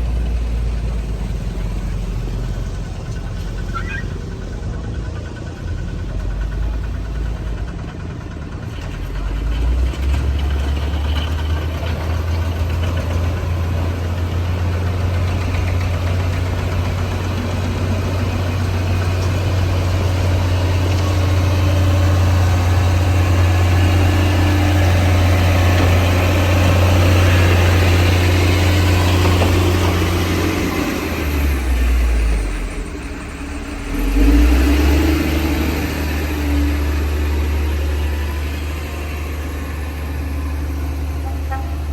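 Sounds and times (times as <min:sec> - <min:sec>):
bulldozer diesel engine drone: 0:00.0 - 0:41.9.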